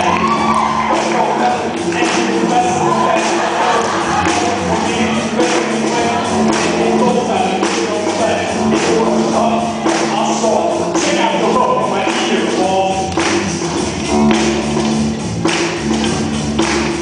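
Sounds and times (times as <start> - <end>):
drum and cymbal hits: 0.0 - 17.0
rock band playing live: 0.0 - 17.0.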